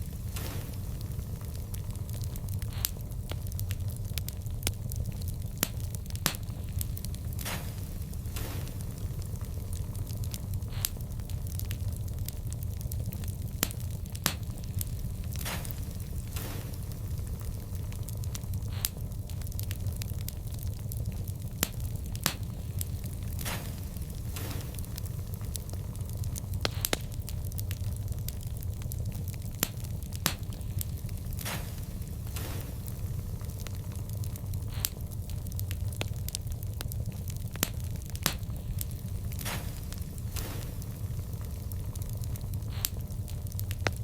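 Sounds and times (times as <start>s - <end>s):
low steady rumble: 0.0s - 44.0s
wood fire crackling and popping: 0.0s - 44.0s.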